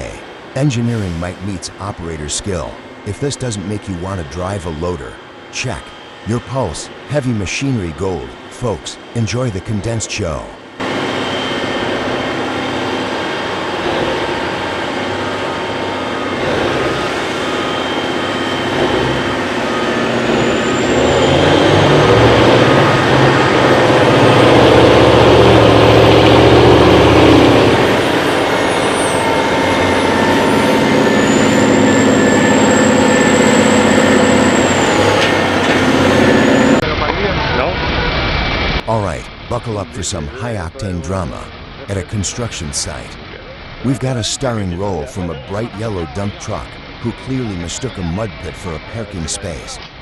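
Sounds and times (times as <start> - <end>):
faint high whine: 0.0 - 49.9
diesel machinery engine running: 0.0 - 50.0.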